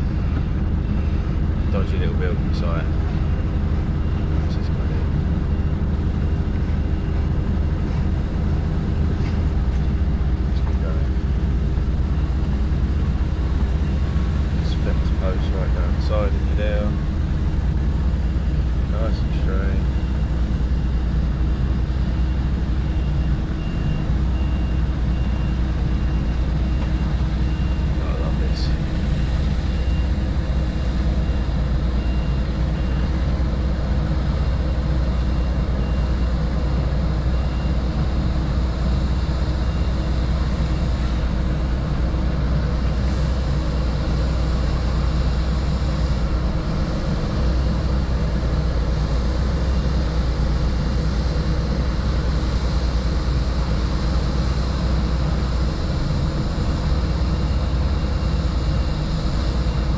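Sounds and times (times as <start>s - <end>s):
lorry diesel engine droning: 0.0s - 59.9s.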